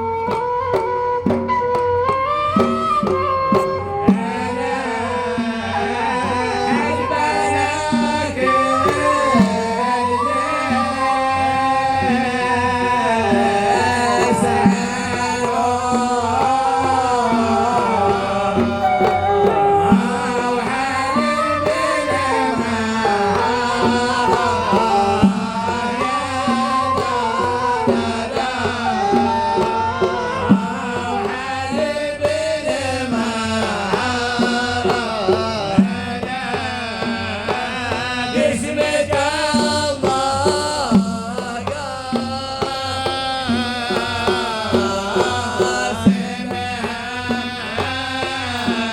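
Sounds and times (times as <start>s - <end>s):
hand drum percussion: 0.0s - 48.9s
person singing ornamented melody: 4.1s - 48.9s.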